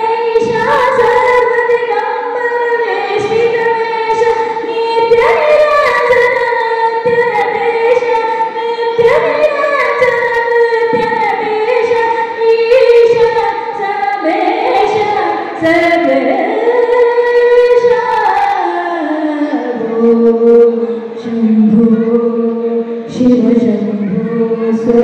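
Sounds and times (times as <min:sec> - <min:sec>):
woman singing into a microphone: 0:00.0 - 0:25.0.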